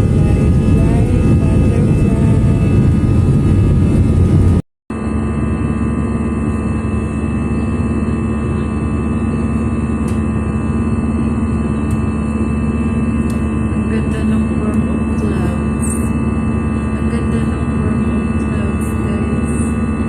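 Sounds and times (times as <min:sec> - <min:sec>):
jet engines from cabin: 0:00.0 - 0:20.0.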